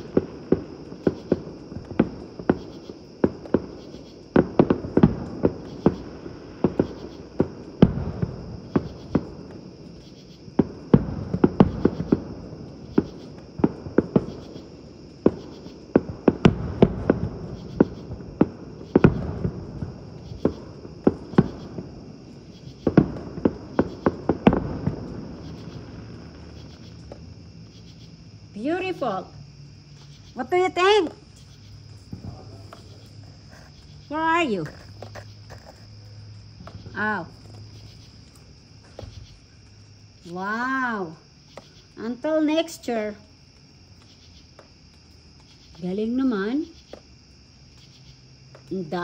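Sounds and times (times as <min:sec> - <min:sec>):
distant fireworks bangs: 0:00.0 - 0:47.2
insects chirring: 0:00.0 - 0:49.0.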